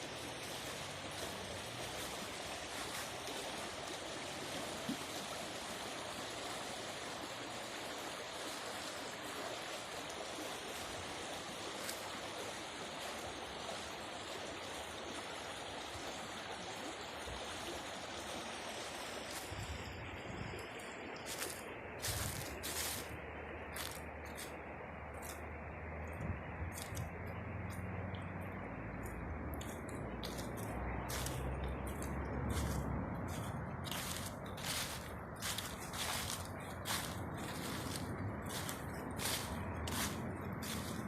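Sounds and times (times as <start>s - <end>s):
river rapids rushing: 0.0s - 26.1s, 26.8s - 41.0s.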